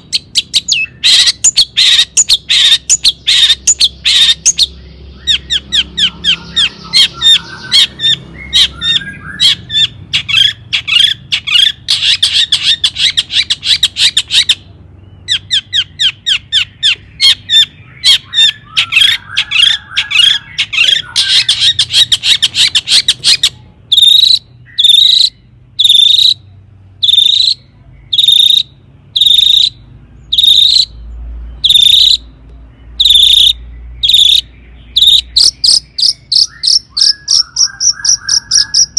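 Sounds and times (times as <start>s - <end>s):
bird rasping chatter: 0.0s - 31.0s, 31.6s - 32.3s, 32.9s - 38.9s
bird singing sharp high notes: 0.0s - 38.9s
short bird calls: 0.0s - 38.9s.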